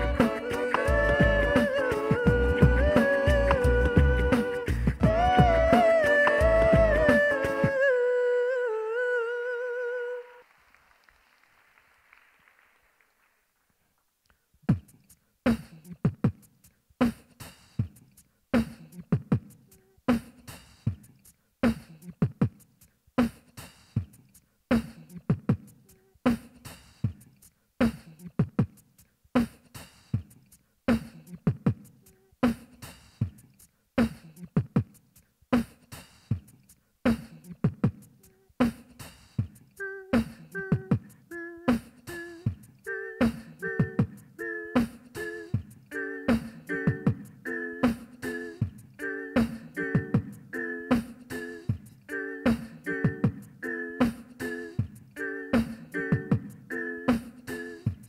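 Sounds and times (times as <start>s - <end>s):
beatboxing: 0.0s - 10.4s, 14.3s - 58.0s.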